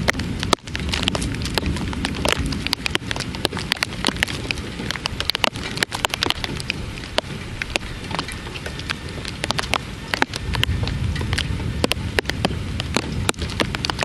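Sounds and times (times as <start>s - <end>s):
heavy rain: 0.0s - 14.0s
low thunder rumble: 0.0s - 14.0s
raindrops tapping close by: 0.0s - 14.0s.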